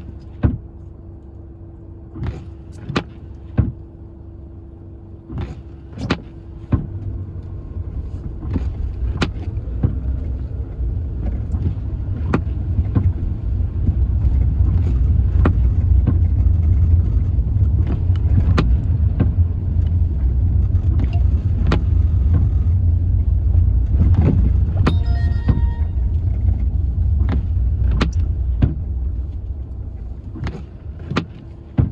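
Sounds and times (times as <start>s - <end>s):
car engine and road rumble: 0.0s - 31.9s.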